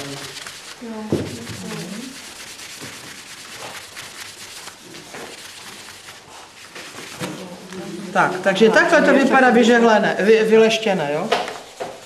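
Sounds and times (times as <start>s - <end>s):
tissue paper scrubbing: 0.0s - 12.0s.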